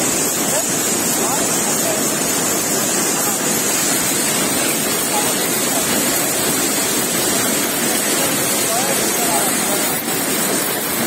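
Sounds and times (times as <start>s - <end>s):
weaving looms clattering: 0.0s - 11.0s.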